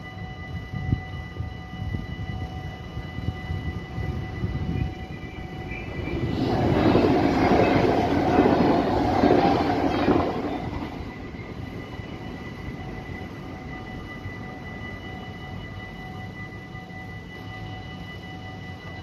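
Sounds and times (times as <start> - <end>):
level crossing warning bells: 0.0 - 19.0
train passing on rails: 0.0 - 19.0.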